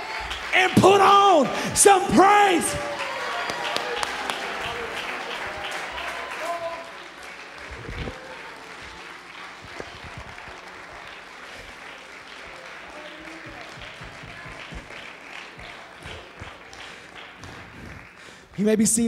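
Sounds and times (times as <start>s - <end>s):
congregation clapping: 0.0s - 19.0s.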